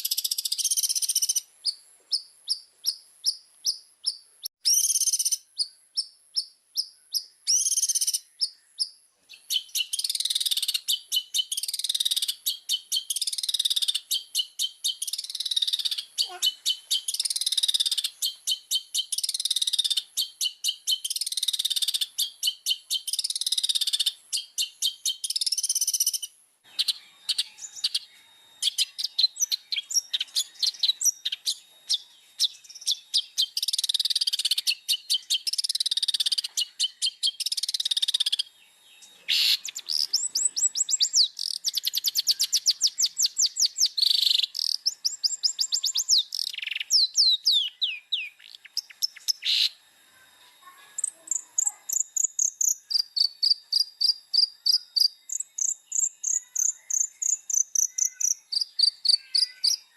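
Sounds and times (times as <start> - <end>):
bird singing fast chatter: 0.0 - 49.8, 50.7 - 59.9.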